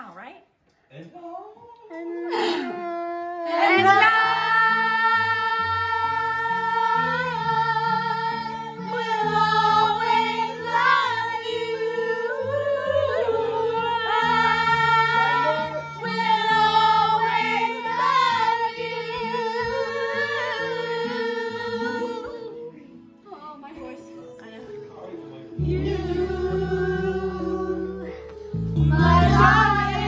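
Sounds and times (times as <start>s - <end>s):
women and girls singing: 1.9s - 22.8s, 25.6s - 30.0s
backing music: 4.1s - 30.0s.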